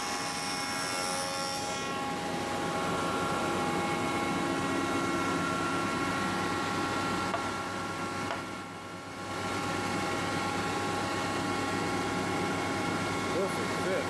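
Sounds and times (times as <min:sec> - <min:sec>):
woodworking machinery humming: 0:00.0 - 0:14.0.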